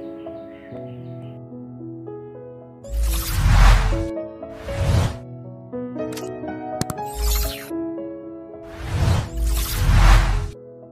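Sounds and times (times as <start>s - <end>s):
soft background music: 0.0s - 10.9s.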